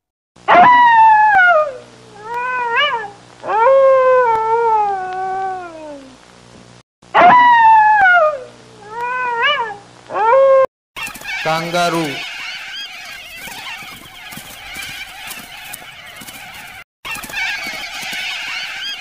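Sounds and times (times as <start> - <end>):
fox wailing cries: 0.5 - 6.1, 7.2 - 19.0.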